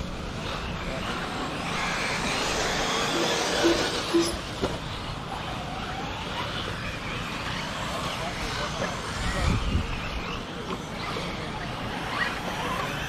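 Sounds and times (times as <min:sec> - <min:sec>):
rc car motor whine and tyre noise: 0:00.0 - 0:13.0.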